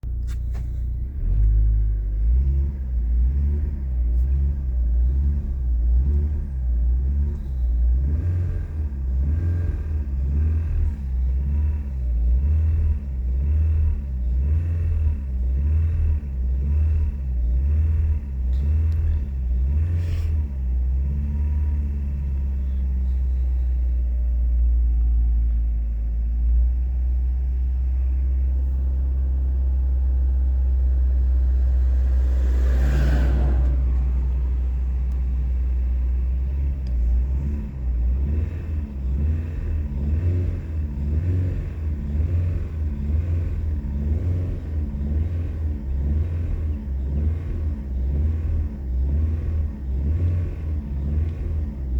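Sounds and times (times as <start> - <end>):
car engine revving and idling: 0.0 - 51.9.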